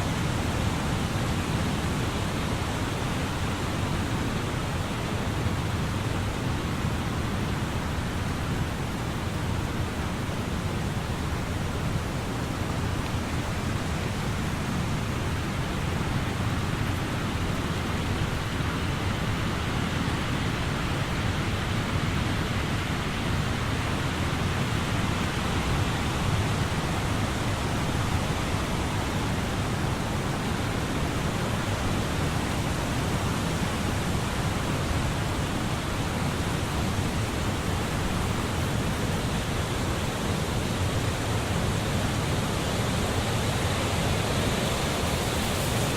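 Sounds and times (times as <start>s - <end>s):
leaves rustling in wind: 0.0s - 45.9s.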